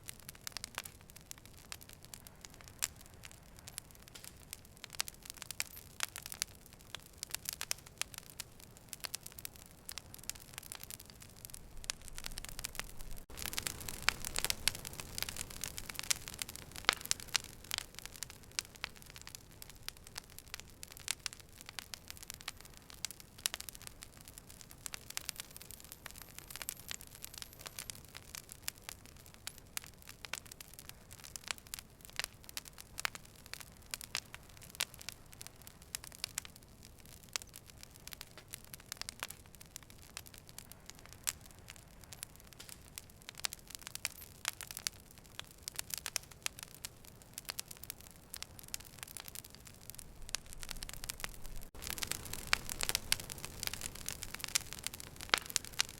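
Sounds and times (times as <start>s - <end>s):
fire crackling and popping: 0.0s - 55.9s
soft steady hiss: 0.0s - 55.9s.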